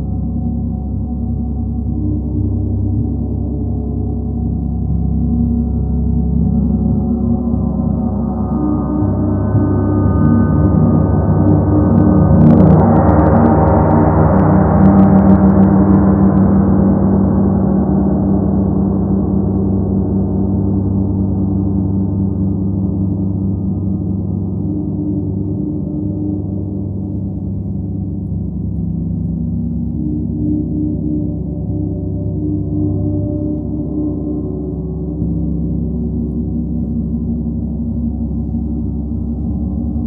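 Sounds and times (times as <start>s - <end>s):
gong resonating: 0.0s - 40.0s.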